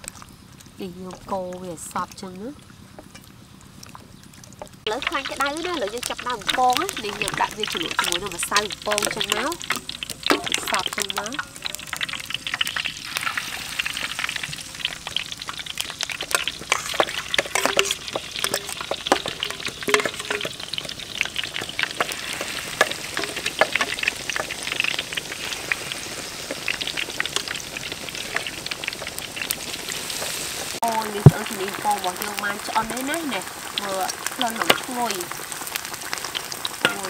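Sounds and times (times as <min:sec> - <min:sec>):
food deep-frying in hot oil: 0:00.0 - 0:37.0.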